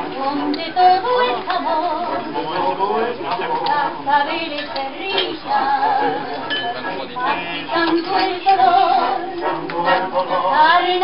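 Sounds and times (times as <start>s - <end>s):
tango music with singer: 0.0s - 6.5s, 7.2s - 11.0s.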